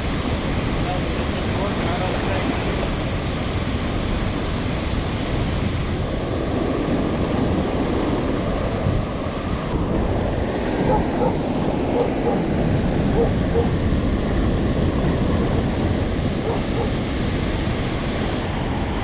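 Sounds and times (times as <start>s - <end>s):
water rushing from a dam: 0.0s - 19.0s
wind on microphone: 0.0s - 19.0s.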